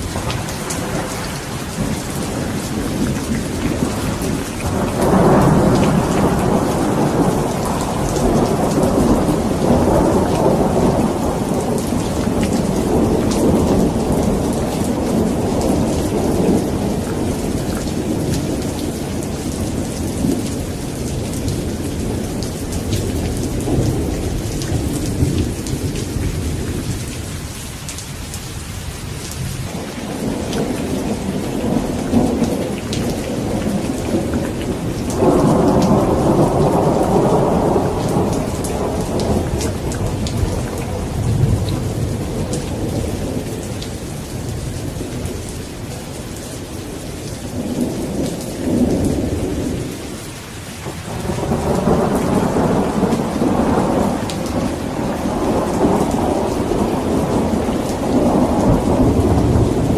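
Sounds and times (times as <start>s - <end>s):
rolling thunder: 0.0s - 27.4s, 29.4s - 50.2s, 50.8s - 59.9s
heavy rain pattering: 0.0s - 59.9s.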